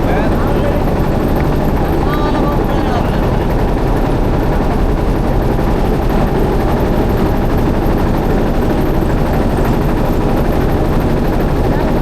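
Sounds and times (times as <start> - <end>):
motorboat engine chugging: 0.0 - 12.0.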